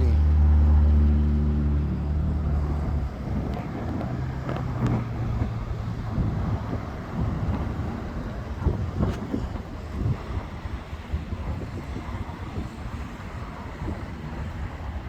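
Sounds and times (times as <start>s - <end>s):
low engine hum: 0.0s - 15.0s
low rumbling noise: 0.0s - 15.0s.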